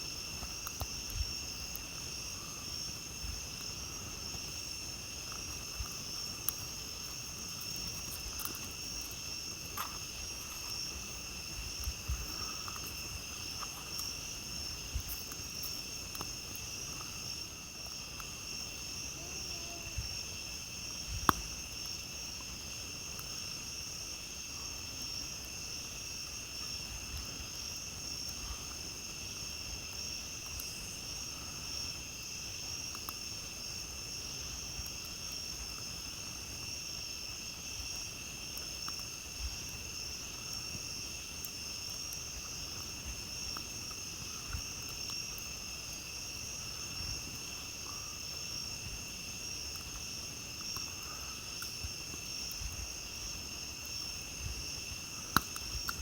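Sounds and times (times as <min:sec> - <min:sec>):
campfire crackling and popping: 0:00.0 - 0:56.0
night insects chirring: 0:00.0 - 0:56.0.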